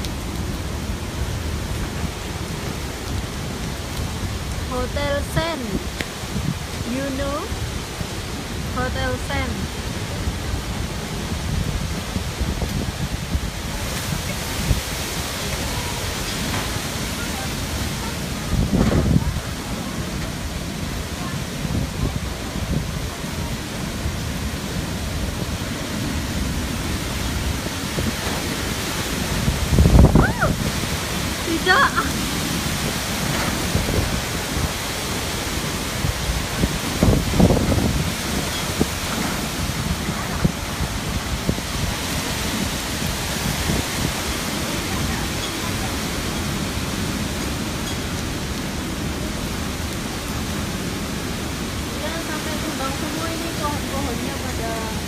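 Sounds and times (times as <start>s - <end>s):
strong wind blowing: 0.0s - 55.0s
wind buffeting microphone: 0.0s - 55.0s.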